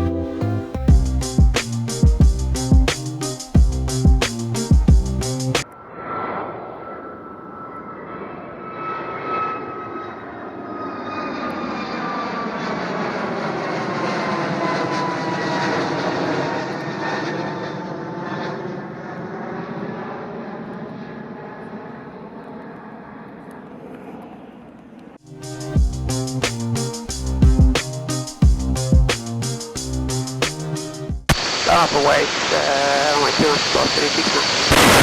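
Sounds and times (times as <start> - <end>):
airliner engines passing by: 5.6 - 28.4, 29.4 - 35.0.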